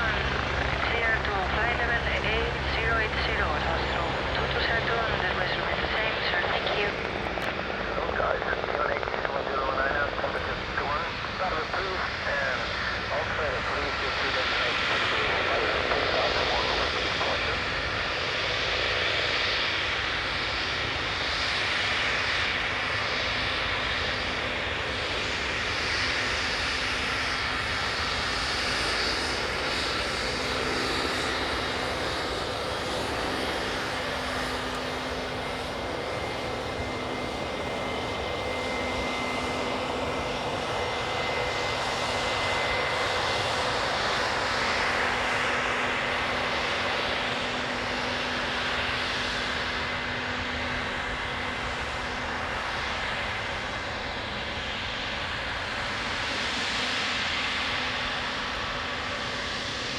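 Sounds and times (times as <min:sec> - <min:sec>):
high jet whine: 0:00.0 - 0:59.9
jet engines running: 0:00.0 - 0:59.9.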